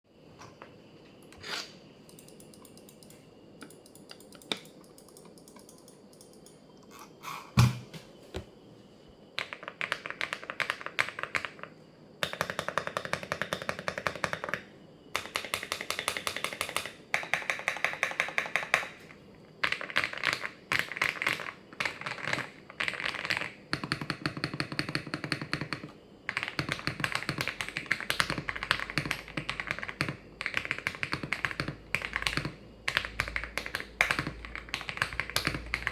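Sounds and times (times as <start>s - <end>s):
mechanical keyboard typing: 2.1s - 6.5s, 9.4s - 14.6s, 15.2s - 19.0s, 19.6s - 35.9s.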